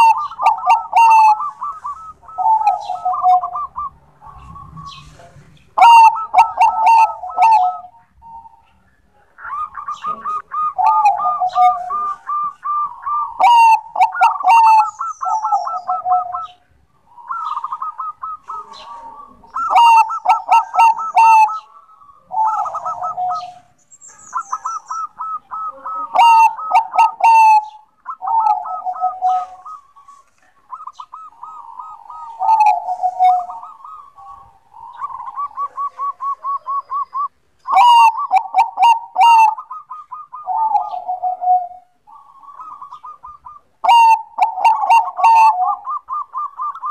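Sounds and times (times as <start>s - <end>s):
dove trilled cooing: 0.0s - 46.9s.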